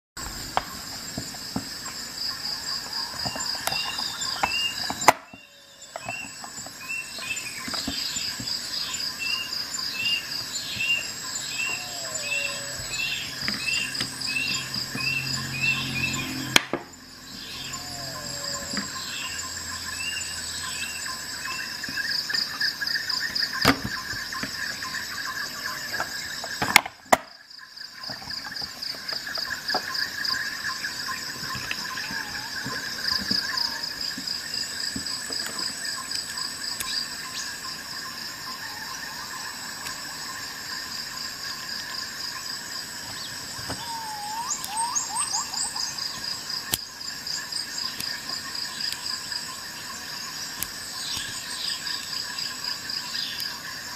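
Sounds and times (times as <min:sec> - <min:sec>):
insect trilling: 0:00.2 - 0:53.9.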